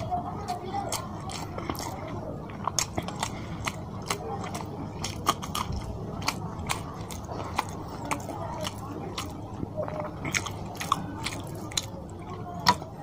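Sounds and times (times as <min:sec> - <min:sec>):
close chewing with mouth clicks: 0:00.0 - 0:13.0.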